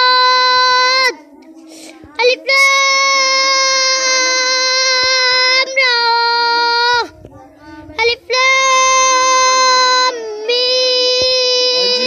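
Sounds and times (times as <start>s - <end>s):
boy chanting in sing-song voice: 0.0s - 12.0s.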